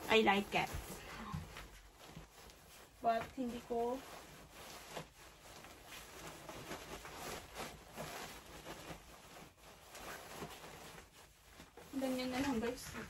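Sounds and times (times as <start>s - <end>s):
jacket fabric rustling: 0.0s - 13.0s.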